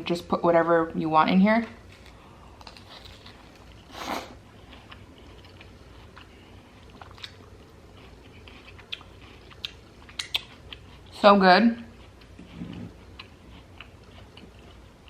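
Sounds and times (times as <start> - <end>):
crunchy chewing: 1.8 - 11.2, 11.8 - 15.0.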